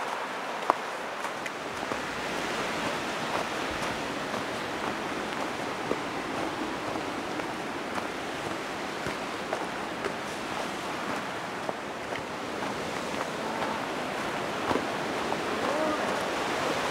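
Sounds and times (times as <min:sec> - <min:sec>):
footsteps crunching on snow: 0:00.0 - 0:16.6
stream rushing: 0:00.0 - 0:16.9.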